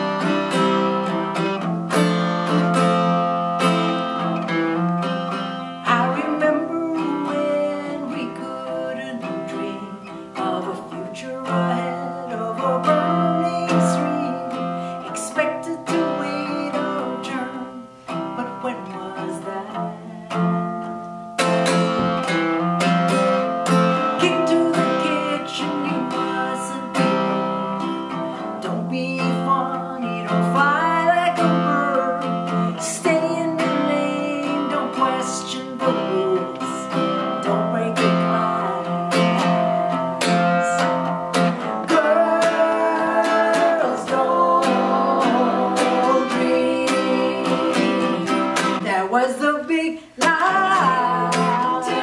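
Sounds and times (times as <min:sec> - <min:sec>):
woman singing: 0:00.0 - 0:20.8, 0:22.0 - 0:52.0
strummed acoustic guitar: 0:00.0 - 0:52.0.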